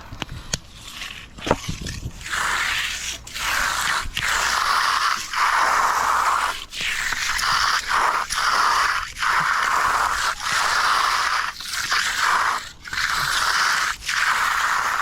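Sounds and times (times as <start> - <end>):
hand tool scraping concrete: 0.0 - 15.0.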